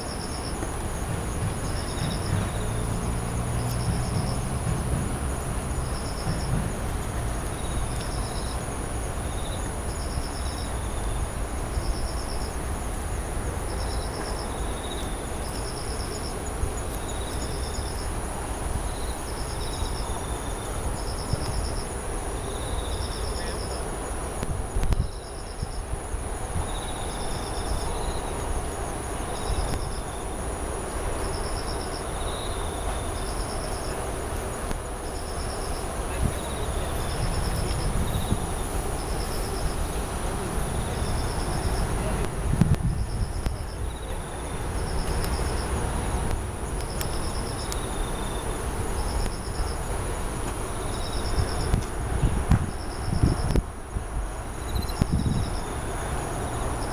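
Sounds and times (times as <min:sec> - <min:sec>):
lower insect chirps: 0:00.0 - 0:51.9, 0:52.7 - 0:56.9
insect short trill: 0:05.8 - 0:51.8, 0:54.5 - 0:56.9.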